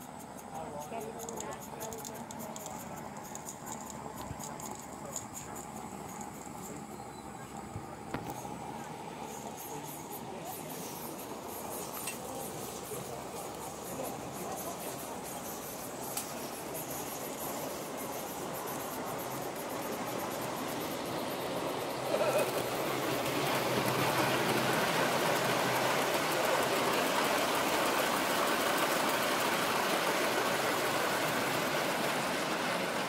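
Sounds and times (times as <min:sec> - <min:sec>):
model train wheels clattering: 0:00.0 - 0:06.8, 0:09.3 - 0:32.3.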